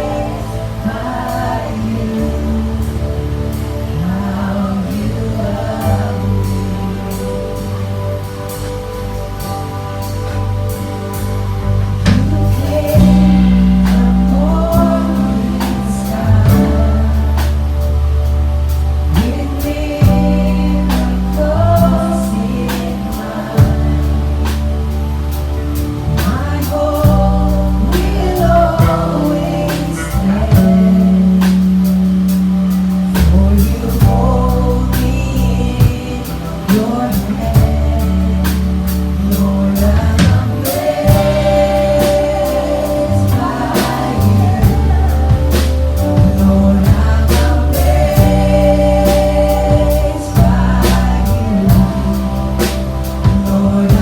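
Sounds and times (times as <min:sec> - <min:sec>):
deep bass notes: 0:00.0 - 0:54.0
people singing gospel: 0:00.0 - 0:54.0
steady drum beat: 0:09.4 - 0:18.0, 0:18.6 - 0:54.0.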